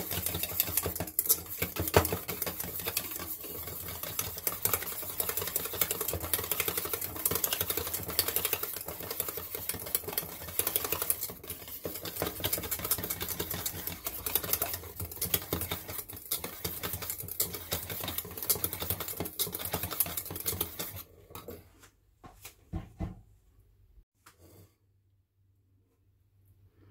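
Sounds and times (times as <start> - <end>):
whisk beating against bowl: 0.0 - 21.6.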